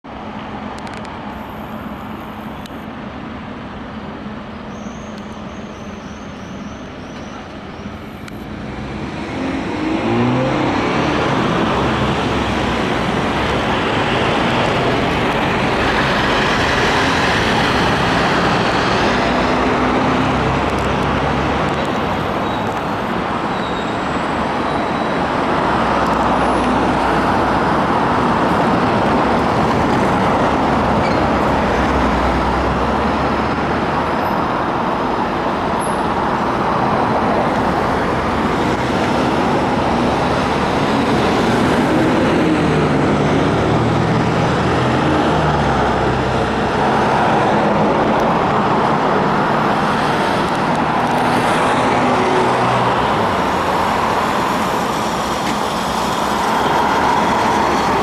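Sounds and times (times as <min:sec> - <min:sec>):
vehicles driving past: 0:00.1 - 0:58.0.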